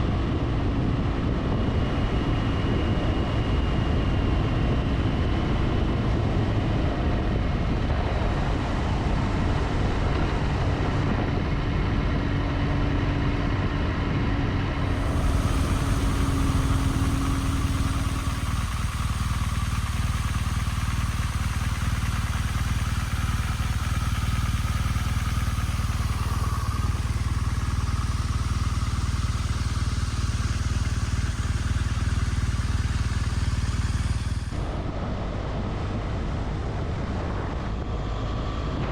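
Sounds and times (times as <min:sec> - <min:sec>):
motorcycle engine: 0:00.0 - 0:38.9
wind and road noise: 0:00.0 - 0:38.9.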